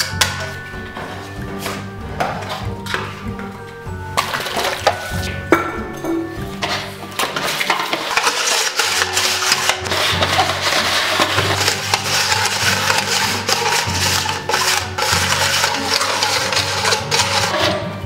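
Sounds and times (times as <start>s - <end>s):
plastic cups clattering on wood: 0.0s - 3.5s, 4.1s - 18.0s
background music: 0.0s - 18.0s.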